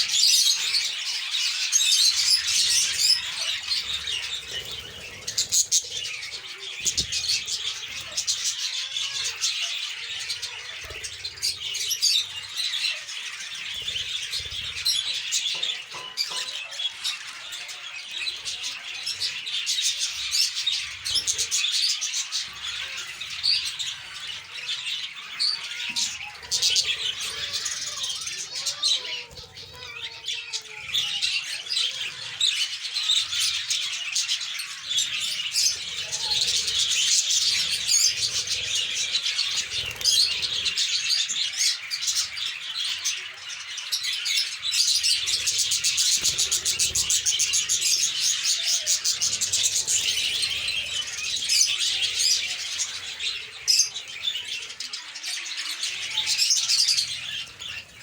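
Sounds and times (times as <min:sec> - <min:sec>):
lovebirds chirping and chattering: 0:00.0 - 0:58.0.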